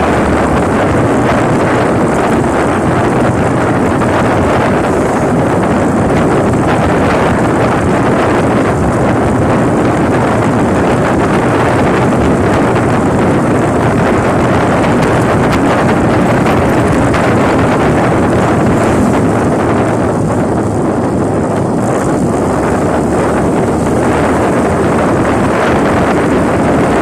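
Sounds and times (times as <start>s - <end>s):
motorcycle engine: 0.0s - 27.0s
road noise: 0.0s - 27.0s
wind buffeting microphone: 0.0s - 27.0s.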